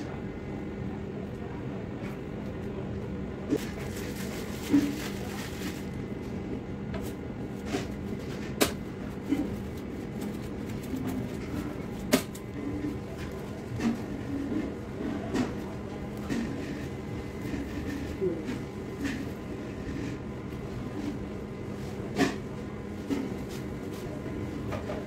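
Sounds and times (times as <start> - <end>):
workroom background hum: 0.0 - 25.0.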